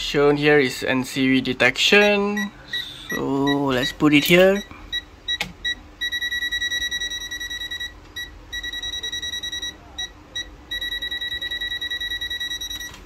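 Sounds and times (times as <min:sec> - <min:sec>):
rapid high-pitched beeping: 0:02.4 - 0:12.9.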